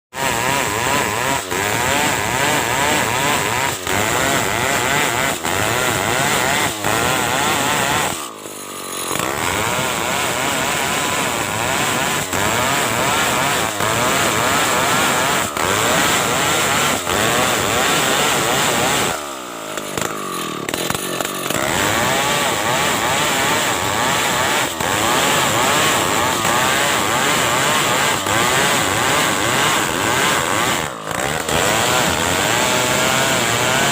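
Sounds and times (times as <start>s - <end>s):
chainsaw cutting log: 0.1s - 33.9s.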